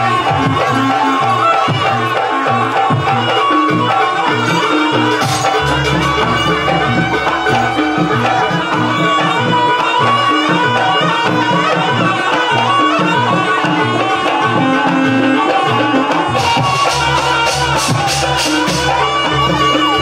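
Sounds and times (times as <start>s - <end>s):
hand drums fast pattern: 0.0s - 20.0s.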